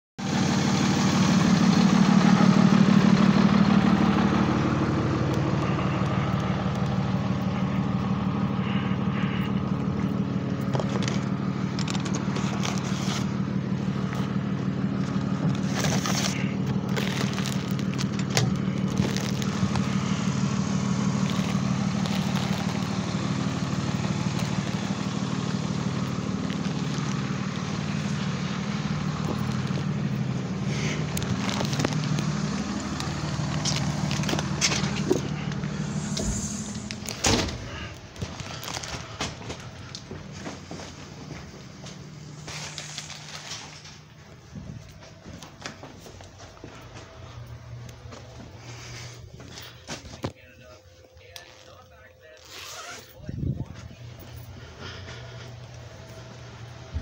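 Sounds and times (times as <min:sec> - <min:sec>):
vehicle engine running: 0:00.2 - 0:57.0.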